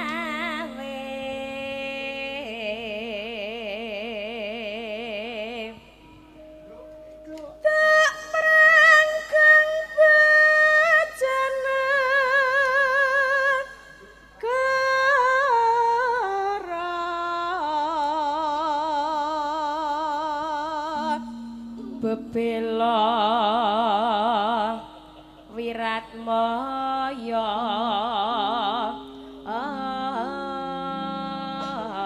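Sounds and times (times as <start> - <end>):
woman singing with vibrato: 0.0 - 6.6, 7.5 - 32.0.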